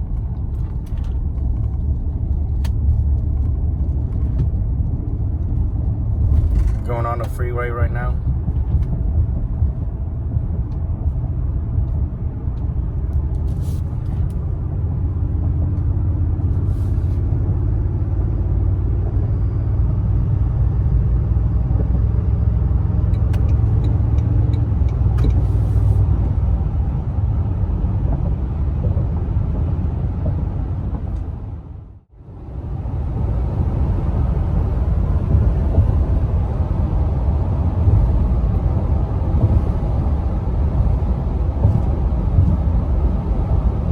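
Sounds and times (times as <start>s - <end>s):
pickup truck road rumble: 0.0s - 43.9s.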